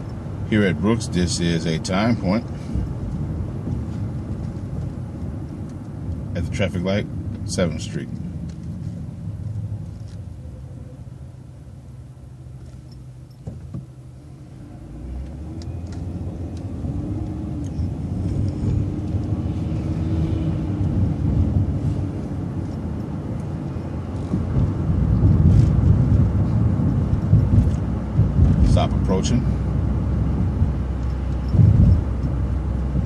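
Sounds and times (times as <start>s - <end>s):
bus engine rumble: 0.0s - 33.0s
drivetrain whine: 0.0s - 33.0s.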